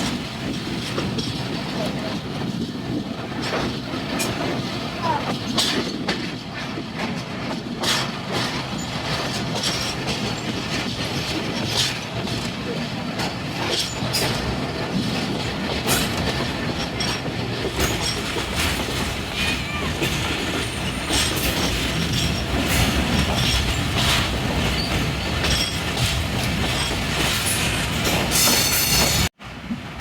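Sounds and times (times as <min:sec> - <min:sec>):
train rumbling on track: 0:00.0 - 0:30.0
wheels clicking over rail joints: 0:00.0 - 0:30.0.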